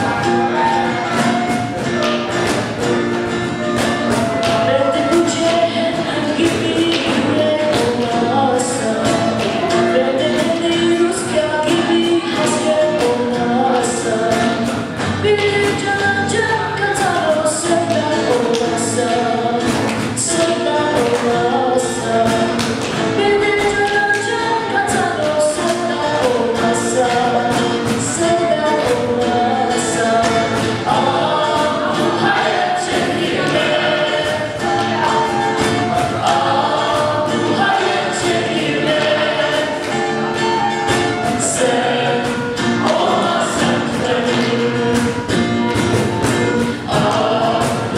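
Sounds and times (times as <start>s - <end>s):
instrumental accompaniment: 0.0s - 47.9s
voices singing together: 0.0s - 47.9s.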